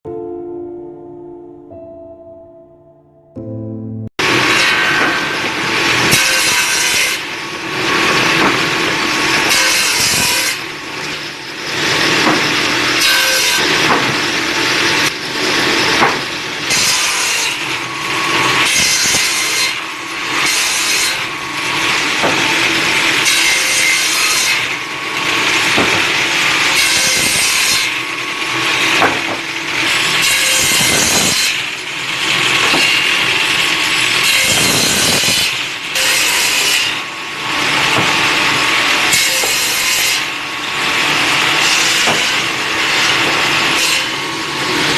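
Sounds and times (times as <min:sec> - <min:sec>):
wood being sawn: 0:04.2 - 0:44.9.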